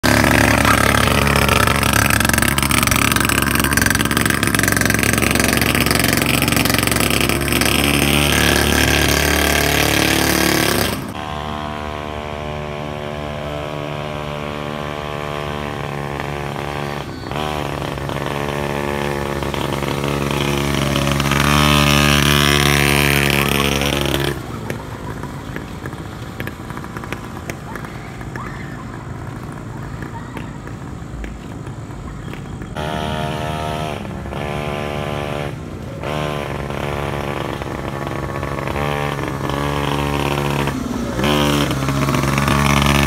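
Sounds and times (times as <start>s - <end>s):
small two-stroke engine running: 0.0s - 31.0s, 31.6s - 43.0s.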